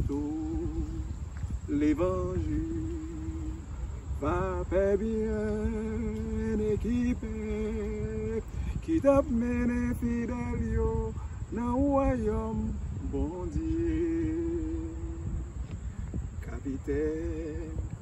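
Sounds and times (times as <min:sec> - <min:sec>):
man singing a hymn: 0:00.0 - 0:18.0.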